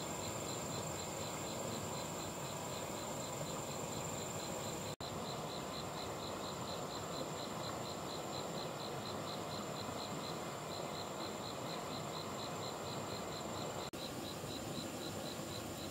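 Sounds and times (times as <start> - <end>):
insects chirping: 0.0 - 15.9
steady hiss: 0.0 - 15.9.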